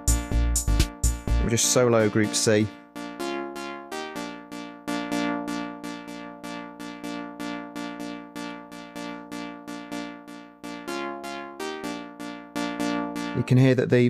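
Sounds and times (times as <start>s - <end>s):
short synth lead notes: 0.0s - 13.7s.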